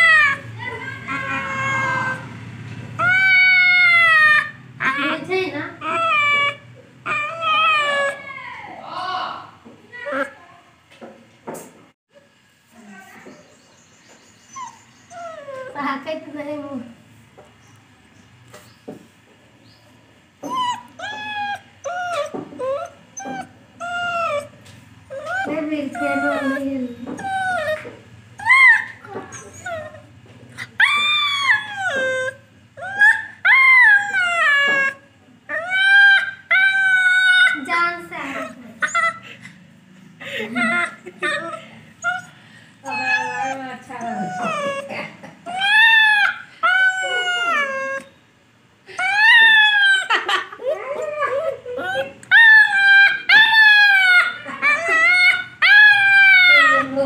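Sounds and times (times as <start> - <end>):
puppy whining: 0.0 - 9.0, 10.0 - 10.4, 13.1 - 16.7, 20.3 - 48.3, 48.9 - 57.0.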